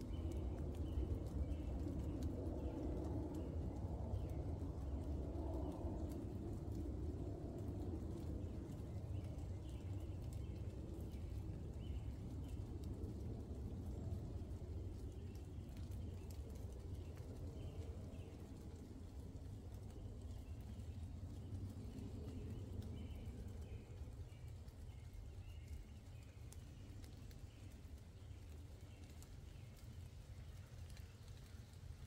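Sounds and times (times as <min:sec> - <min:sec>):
raindrop ticks: 0:00.0 - 0:32.0
steady low rumble: 0:00.0 - 0:32.0.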